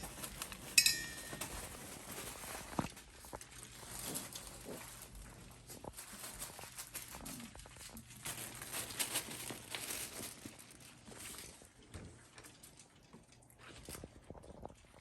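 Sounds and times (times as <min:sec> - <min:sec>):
crinkling: 0:00.0 - 0:15.0
puppies moving and eating: 0:00.0 - 0:15.0.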